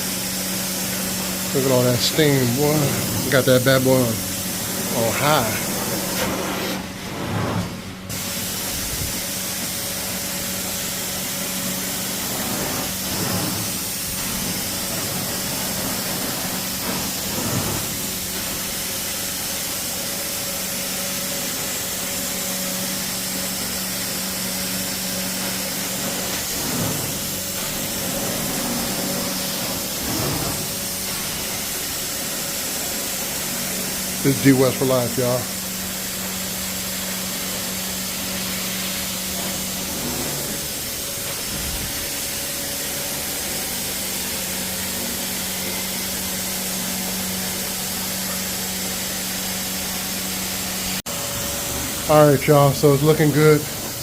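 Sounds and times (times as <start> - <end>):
carpet extractor humming: 0.0 - 54.0
water spraying and suction hiss: 0.0 - 54.0.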